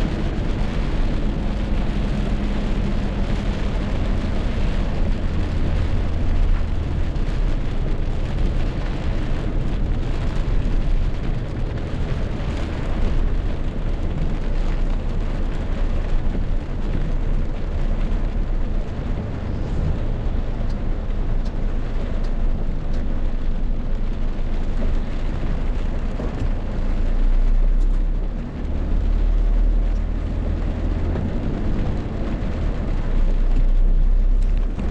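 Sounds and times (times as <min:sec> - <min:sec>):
gusting wind: 0:00.0 - 0:29.1, 0:29.7 - 0:34.9
deep rumble: 0:00.0 - 0:34.9
heavy rain: 0:00.0 - 0:34.9.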